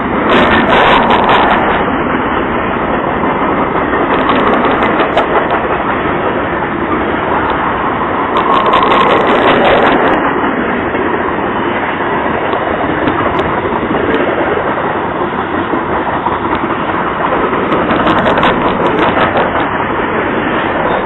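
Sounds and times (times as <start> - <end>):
rail clicks: 0.0 - 21.0
train wheels rumbling on rails: 0.0 - 21.0.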